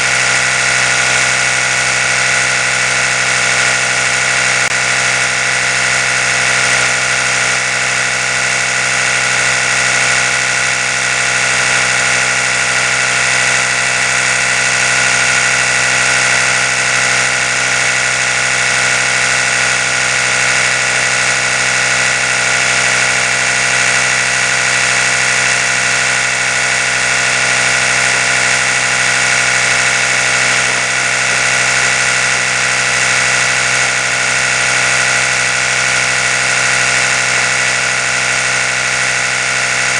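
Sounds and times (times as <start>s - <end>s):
electric toothbrush buzzing: 0.0s - 39.9s.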